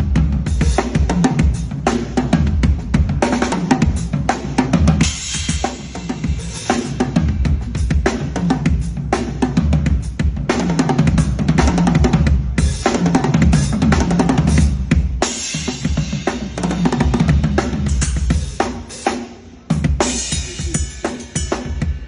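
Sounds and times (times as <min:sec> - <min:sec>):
drum kit fills: 0:00.0 - 0:22.0.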